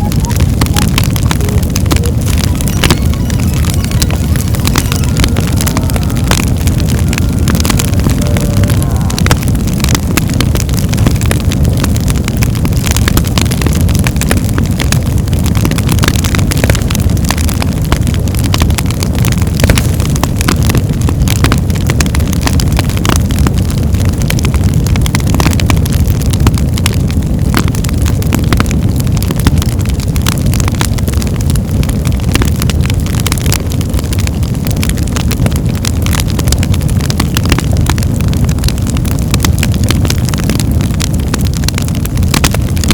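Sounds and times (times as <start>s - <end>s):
logs crackling in fireplace: 0.0s - 42.9s.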